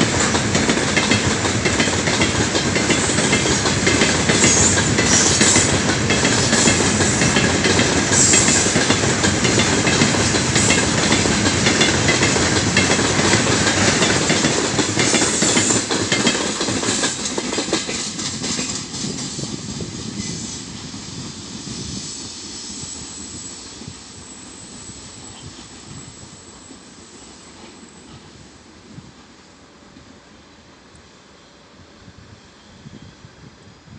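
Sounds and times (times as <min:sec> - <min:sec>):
freight train wheels rumbling on rails: 0:00.0 - 0:33.9.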